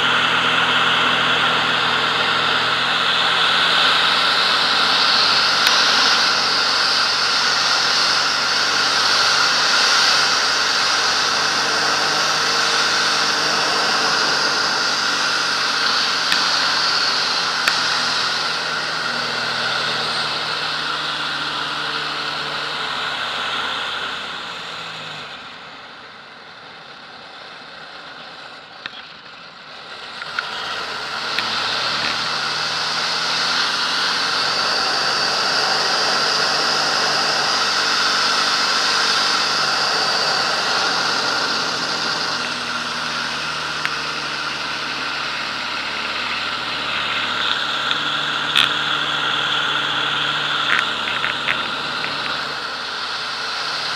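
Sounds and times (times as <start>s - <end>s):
rushing air: 0.0s - 24.3s, 30.7s - 53.9s
plane piston engine and propeller: 0.0s - 53.9s.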